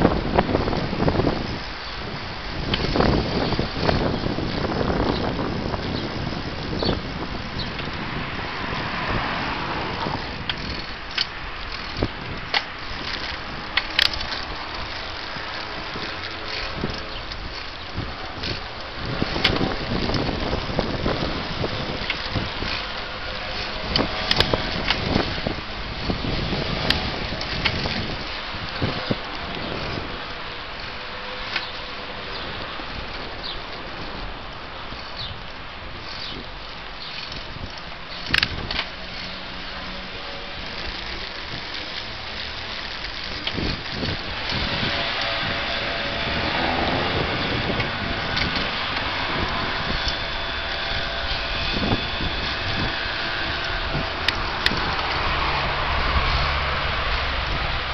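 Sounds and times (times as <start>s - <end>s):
bicycle clicks and rattles: 0.0s - 57.9s
bicycle riding rumble: 0.0s - 57.9s
wind rushing over microphone: 0.0s - 57.9s.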